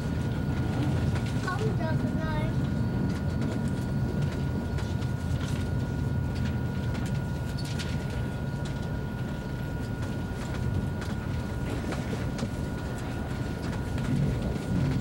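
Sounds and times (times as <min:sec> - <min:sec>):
train interior low rumble: 0:00.0 - 0:15.0.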